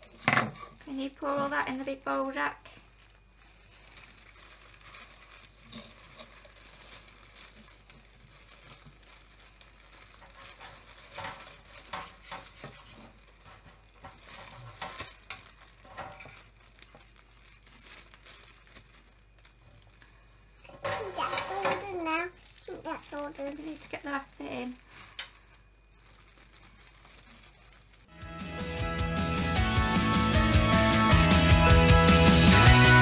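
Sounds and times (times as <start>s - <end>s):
plastic bag rustling: 0.0s - 28.2s.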